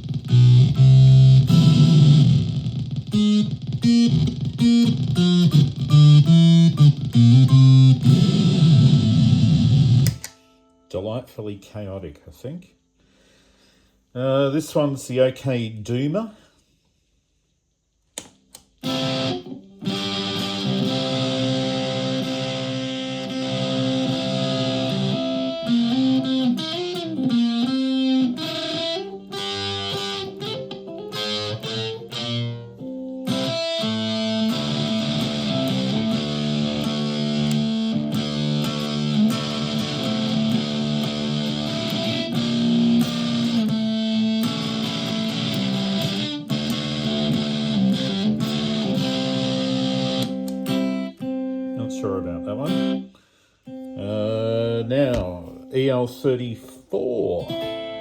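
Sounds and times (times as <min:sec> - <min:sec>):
distorted electric ukulele chords: 0:00.0 - 0:10.9, 0:18.5 - 0:53.1, 0:53.7 - 0:58.0.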